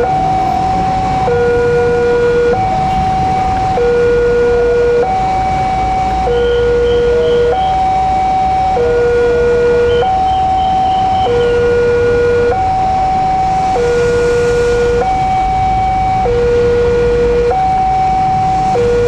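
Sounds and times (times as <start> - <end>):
level crossing two-tone alarm: 0.0 - 19.0
low traffic rumble: 0.0 - 19.0.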